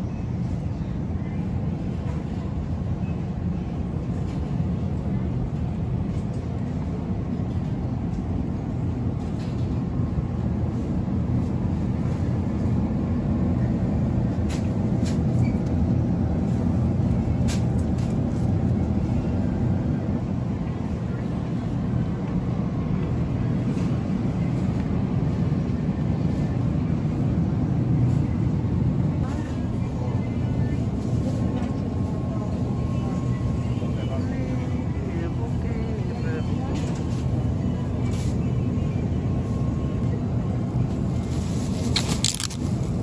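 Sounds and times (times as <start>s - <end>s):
low hum of refrigerated cases: 0.0s - 43.0s.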